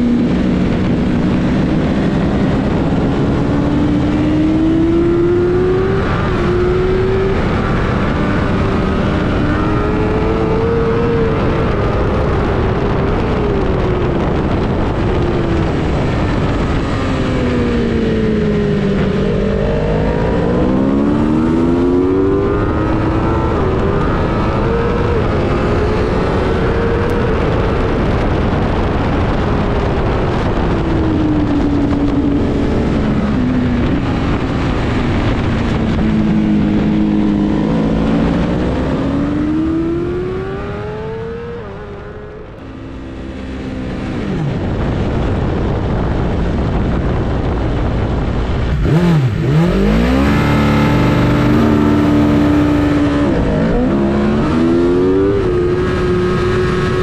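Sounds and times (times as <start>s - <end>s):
motorcycle engine revving: 0.0s - 57.0s
wind rush: 0.0s - 57.0s.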